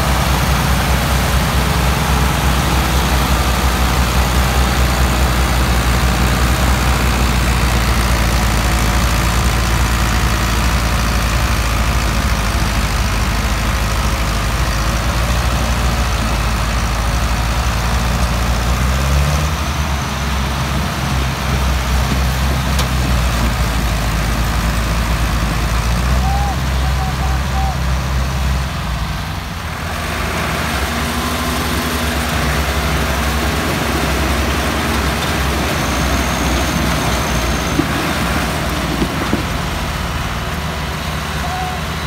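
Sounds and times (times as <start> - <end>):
tractor diesel engines droning: 0.0 - 42.0.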